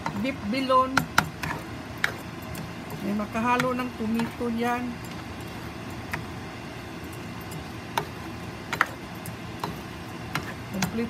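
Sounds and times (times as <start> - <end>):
food frying: 0.0 - 11.0.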